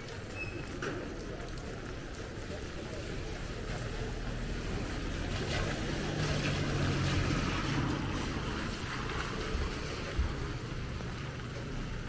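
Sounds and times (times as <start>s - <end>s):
rain falling on street: 0.0s - 12.0s.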